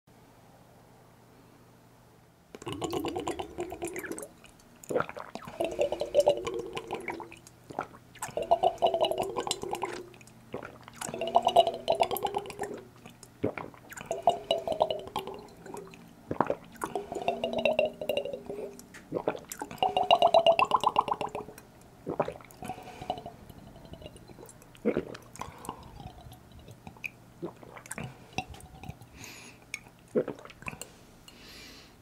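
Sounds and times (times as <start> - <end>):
gurgling glugs and swallows: 2.6 - 31.0.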